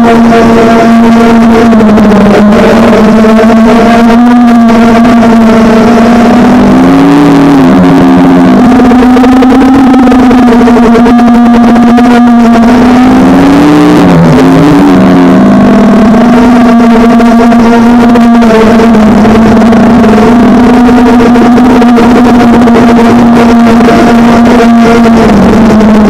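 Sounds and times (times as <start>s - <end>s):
quadcopter motors and propellers: 0.0s - 26.0s.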